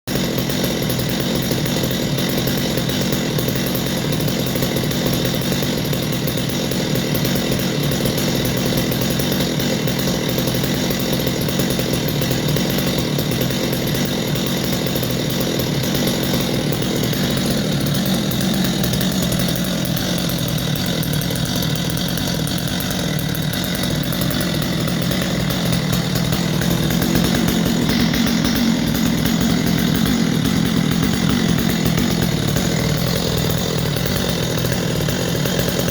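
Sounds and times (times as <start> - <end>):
chainsaw engine running: 0.0 - 35.9.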